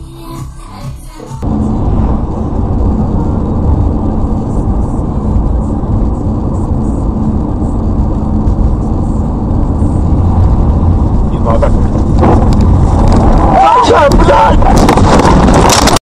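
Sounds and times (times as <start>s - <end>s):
car cabin road noise: 0.0s - 16.0s
low hum: 1.4s - 16.0s.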